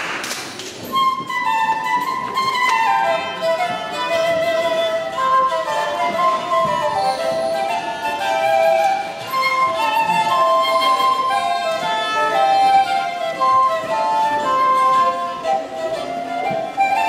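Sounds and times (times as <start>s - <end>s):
fiddle: 0.8s - 17.0s
flute melody: 0.8s - 17.0s
upright woodwind: 0.8s - 17.0s.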